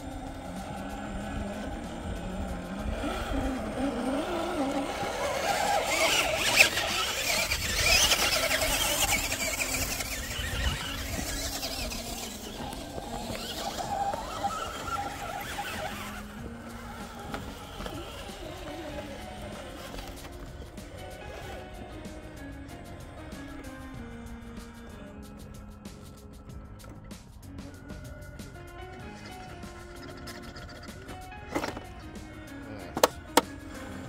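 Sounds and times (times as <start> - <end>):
toy car motor whining: 0.0 - 26.2, 26.8 - 34.0.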